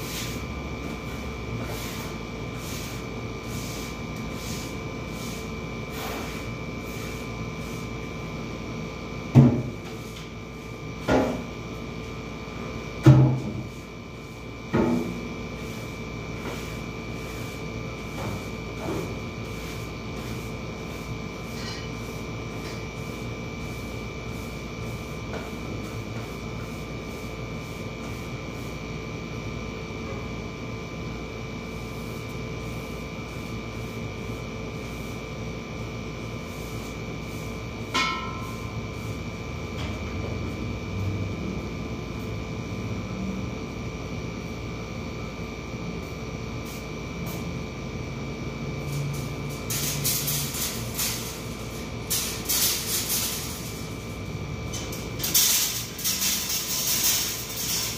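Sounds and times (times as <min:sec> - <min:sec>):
electrical hum: 0:00.0 - 0:57.9.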